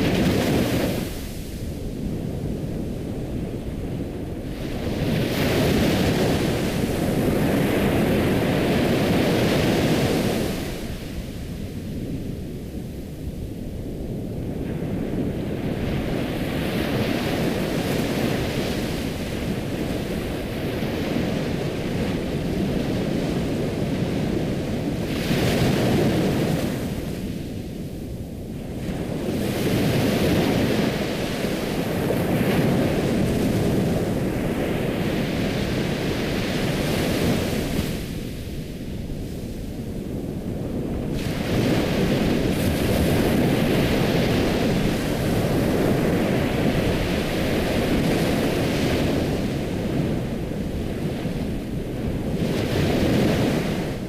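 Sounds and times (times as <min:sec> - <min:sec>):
ocean waves washing onto shore: 0:00.0 - 0:54.0.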